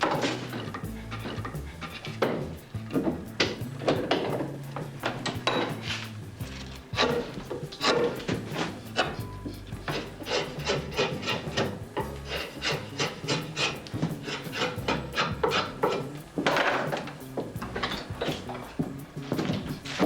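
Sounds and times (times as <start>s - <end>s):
hand rasp scraping wood: 0.0s - 20.0s.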